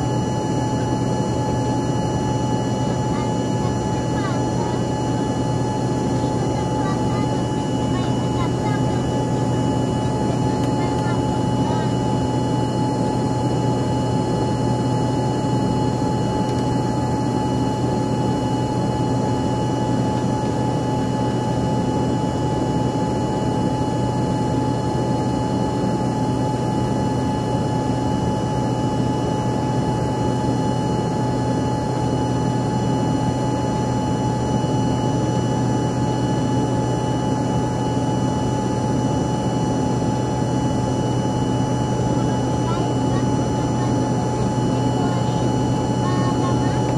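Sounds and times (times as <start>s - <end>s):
airplane cabin hum: 0.0s - 46.9s
thin steady jet whine: 0.0s - 46.9s.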